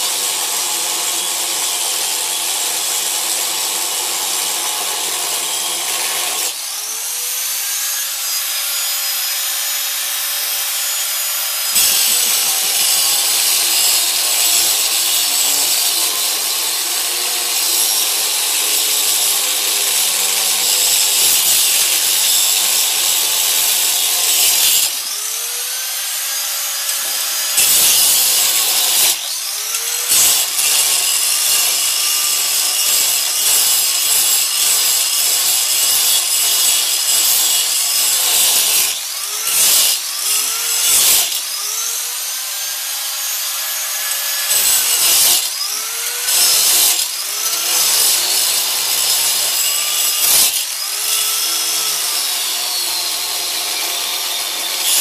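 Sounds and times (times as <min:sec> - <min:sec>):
angle grinder cutting steel: 0:00.0 - 0:55.0.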